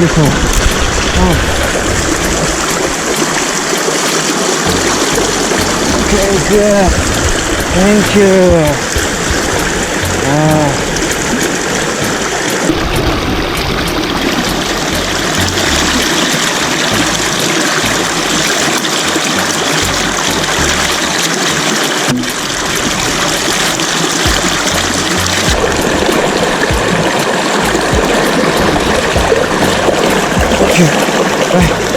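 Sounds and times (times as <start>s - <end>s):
creek water running over rocks: 0.0s - 31.9s.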